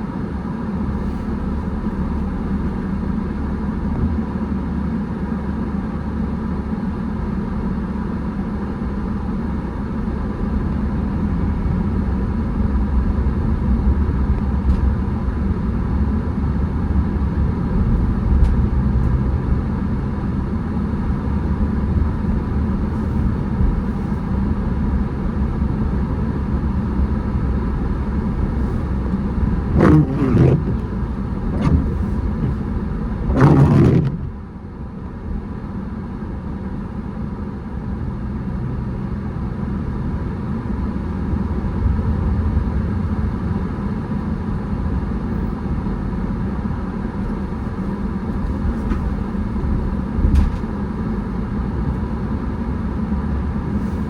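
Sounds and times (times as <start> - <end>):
car driving rumble from inside: 0.0 - 54.0.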